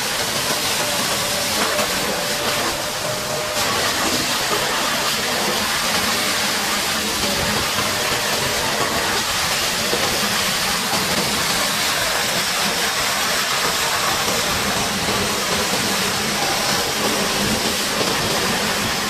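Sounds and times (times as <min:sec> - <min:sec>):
water jet spraying on steel: 0:00.0 - 0:19.0.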